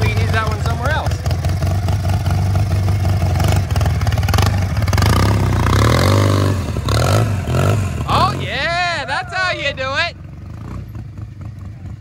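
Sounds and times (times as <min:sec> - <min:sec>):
lawn mower engine revving: 0:00.0 - 0:11.5.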